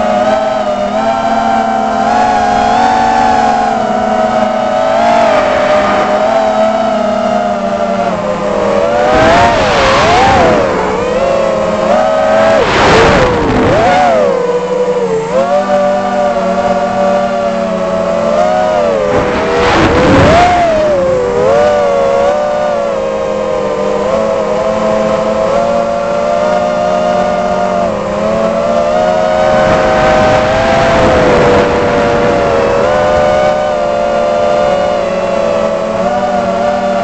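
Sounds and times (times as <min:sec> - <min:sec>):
drone motors whining: 0:00.0 - 0:37.0
wind on microphone: 0:00.0 - 0:37.0.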